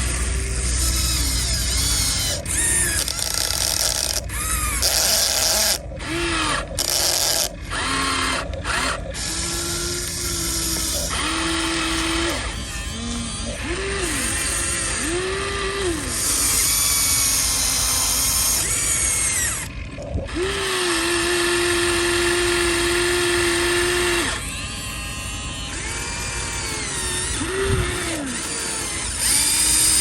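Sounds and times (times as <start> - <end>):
electric motors whirring: 0.0 - 30.0.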